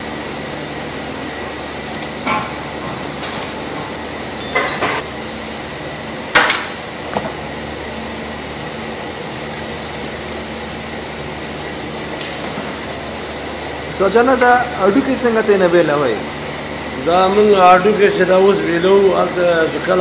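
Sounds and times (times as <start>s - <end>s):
rushing kitchen background noise: 0.0s - 20.0s.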